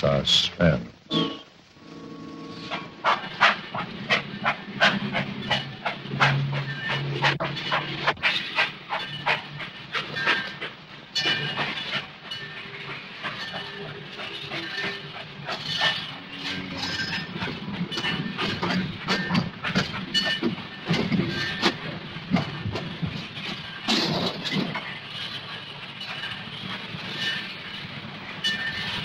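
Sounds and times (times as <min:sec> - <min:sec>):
old soundtrack noise: 0:00.0 - 0:29.0
train rumbling and clattering: 0:00.0 - 0:29.0.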